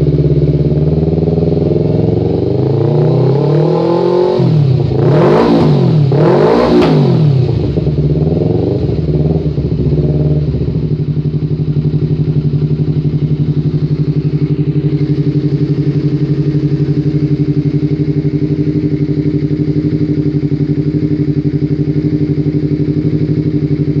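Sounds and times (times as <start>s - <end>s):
motorcycle engine revving and idling: 0.0s - 24.0s.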